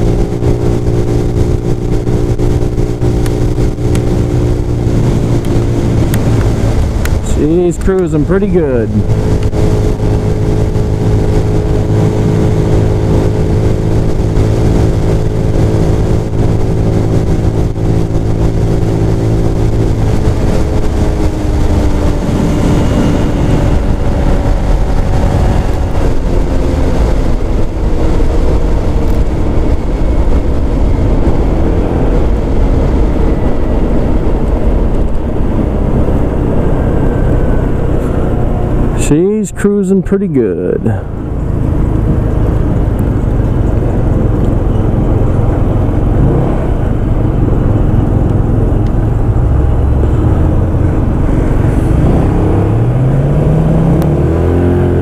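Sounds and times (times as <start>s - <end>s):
road rush: 0.0s - 55.0s
scooter engine drone: 0.0s - 55.0s
wind noise: 0.0s - 55.0s.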